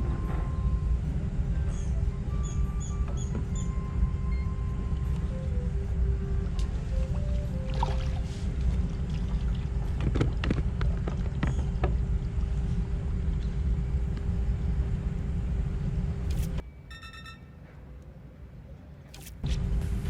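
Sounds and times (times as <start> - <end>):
faint steady hum: 0.0 - 19.1.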